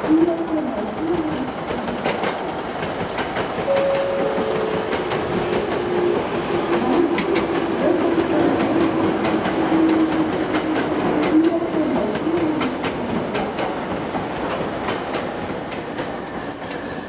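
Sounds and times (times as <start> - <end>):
train wheels clacking over rail joints: 0.0 - 17.0.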